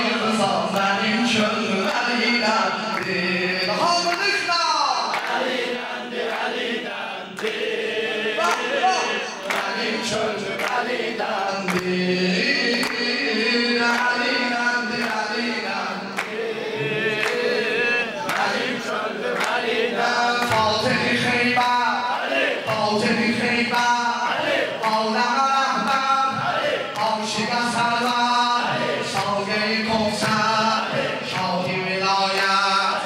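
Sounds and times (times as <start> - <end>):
lead voice on microphone: 0.0 - 6.2, 8.2 - 33.0
men chanting together: 0.0 - 33.0
hand claps: 0.7 - 1.0, 1.8 - 6.7, 7.3 - 7.8, 8.4 - 33.0.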